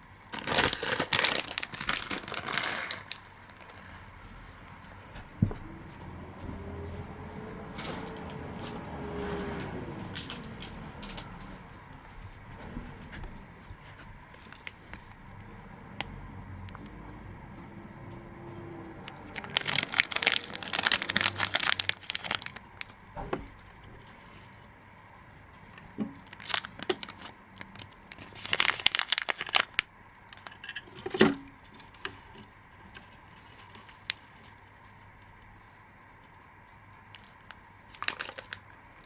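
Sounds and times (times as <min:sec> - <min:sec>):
crinkling and rustling handling: 0:00.0 - 0:17.1, 0:18.0 - 0:39.0.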